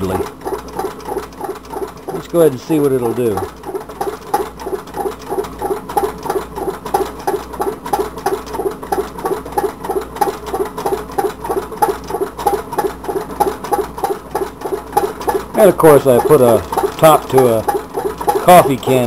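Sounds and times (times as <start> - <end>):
stirling engine rhythmic doink: 0.0 - 19.0.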